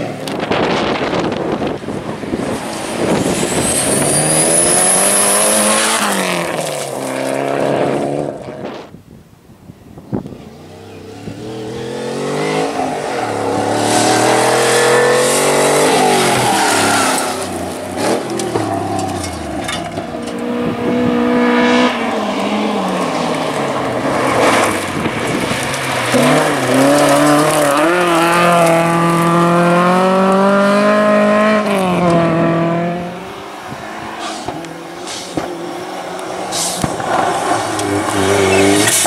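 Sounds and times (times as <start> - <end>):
rally car engines revving: 0.0 - 8.9, 10.3 - 39.0.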